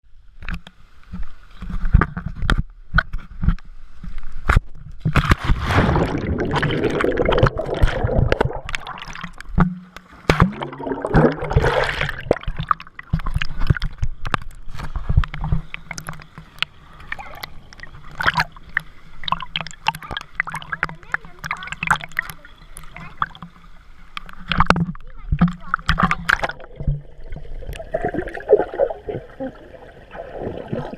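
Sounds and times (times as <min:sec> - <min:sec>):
water sloshing and gurgling: 0:00.4 - 0:30.9
rush of water: 0:05.0 - 0:30.9.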